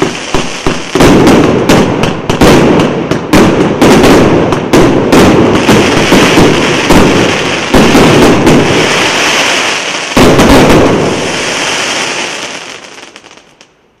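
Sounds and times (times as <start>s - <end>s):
fireworks launching and banging: 0.0s - 13.8s
crackling fireworks stars: 0.0s - 14.0s.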